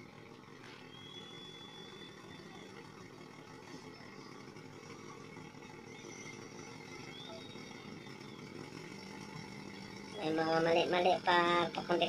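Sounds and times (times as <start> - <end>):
faint engine running: 0.0 - 12.0.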